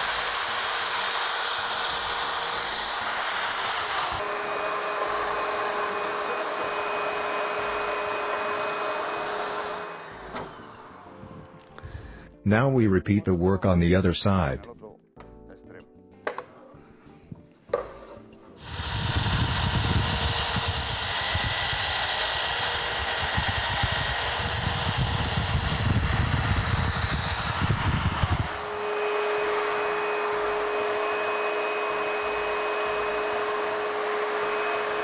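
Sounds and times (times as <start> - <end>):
electric drill boring into wood: 0.0 - 12.0, 18.6 - 35.0
vacuum cleaner humming: 0.0 - 12.2, 17.7 - 35.0.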